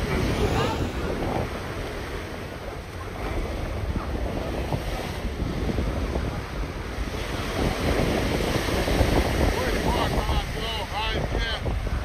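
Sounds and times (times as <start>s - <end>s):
ocean surf: 0.0s - 12.0s
wind buffeting microphone: 0.0s - 12.0s.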